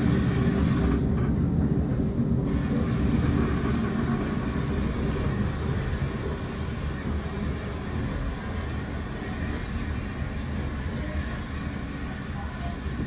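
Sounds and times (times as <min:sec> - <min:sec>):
train wheels on track: 0:00.0 - 0:13.0.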